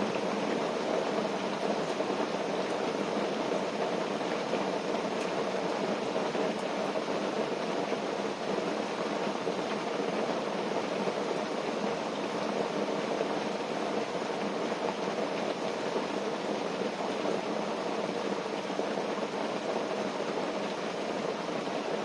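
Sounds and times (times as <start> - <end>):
rain falling on a tent: 0.0 - 22.0.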